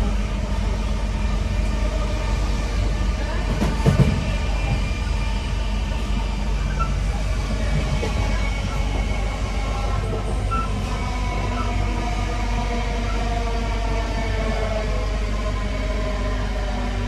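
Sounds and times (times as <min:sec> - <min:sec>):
train running gear rumble: 0:00.0 - 0:17.0
train traction motor whine: 0:00.0 - 0:17.0.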